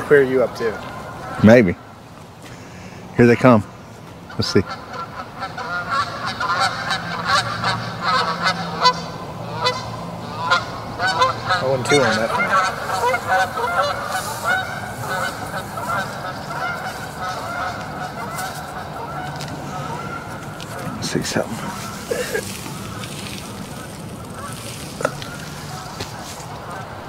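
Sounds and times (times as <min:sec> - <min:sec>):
geese honking: 0:00.0 - 0:02.0, 0:04.2 - 0:27.0.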